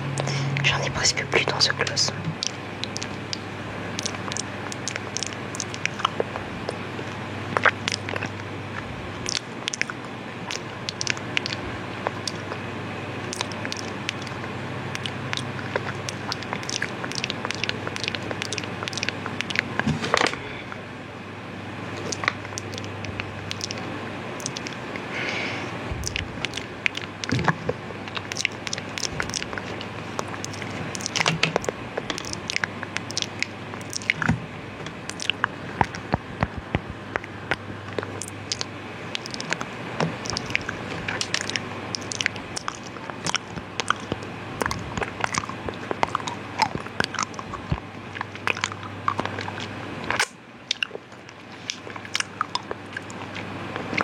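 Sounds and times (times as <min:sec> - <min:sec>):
wet mouth clicks and lip smacks: 0:02.3 - 0:08.5, 0:09.2 - 0:12.6, 0:13.3 - 0:20.3, 0:22.0 - 0:23.8, 0:24.4 - 0:25.0, 0:26.0 - 0:34.3, 0:35.0 - 0:54.0.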